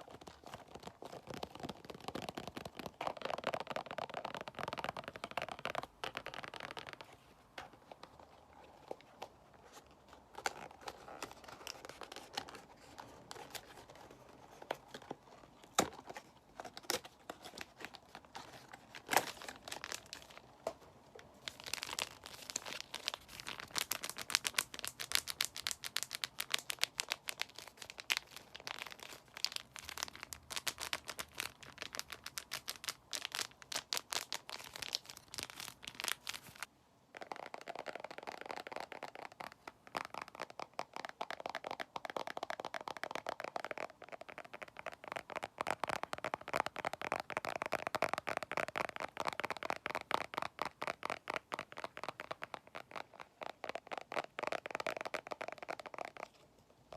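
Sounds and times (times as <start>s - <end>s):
crinkly material crackling: 0.0s - 56.9s.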